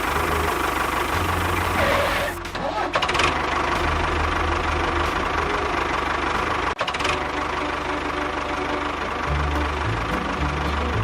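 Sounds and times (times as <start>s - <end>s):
engine running with knock: 0.0s - 11.0s.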